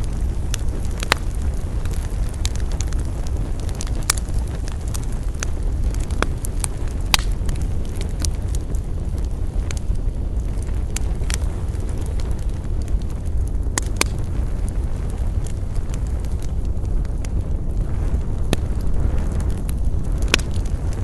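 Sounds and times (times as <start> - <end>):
crackles and pops of burning wood: 0.0 - 21.0
wood fire burning: 0.0 - 21.0.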